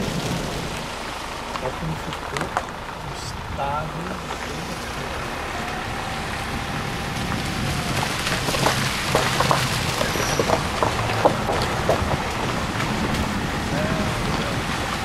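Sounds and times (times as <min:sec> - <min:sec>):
gravel ticks and splashes: 0:00.0 - 0:15.0
tyres rolling on wet road: 0:00.0 - 0:15.0.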